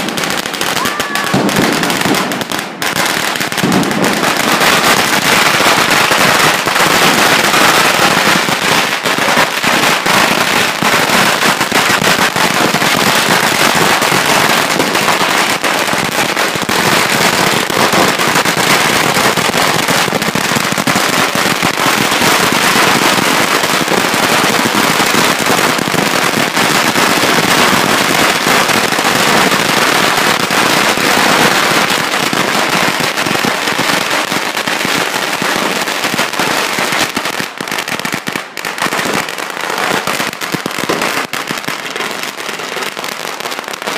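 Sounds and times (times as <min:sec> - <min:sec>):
firecrackers crackling: 0:00.0 - 0:43.9.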